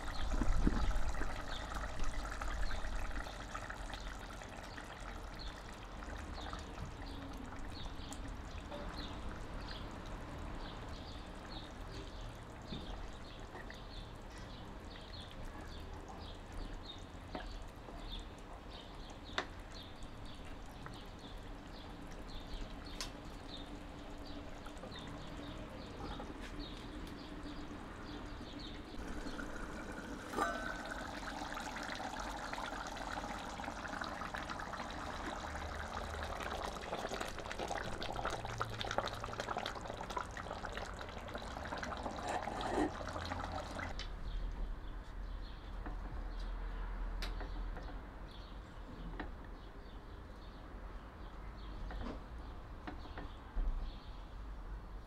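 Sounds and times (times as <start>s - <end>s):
curry simmering with bubbles popping: 0.0s - 44.1s.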